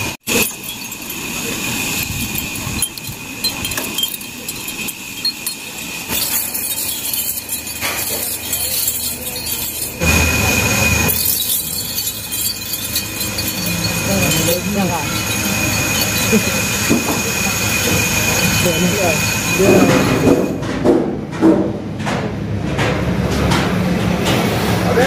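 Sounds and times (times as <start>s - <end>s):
metal chains jingling: 0.2s - 20.5s.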